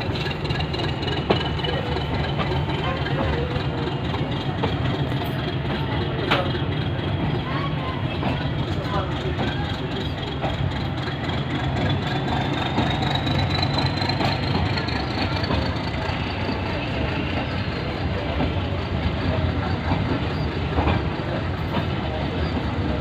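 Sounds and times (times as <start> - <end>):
clickety-clack of wheels: 0.0 - 23.0
train rumbling: 0.0 - 23.0.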